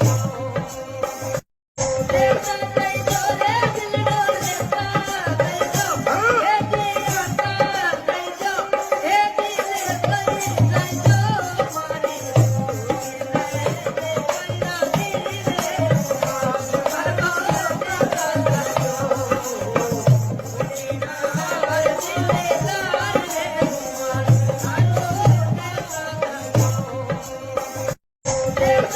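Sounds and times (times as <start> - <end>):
jingling rattling percussion: 0.0 - 28.9.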